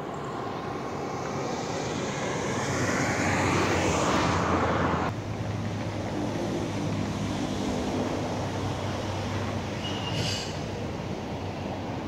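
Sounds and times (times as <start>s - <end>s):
car passing on road: 0.0s - 12.0s.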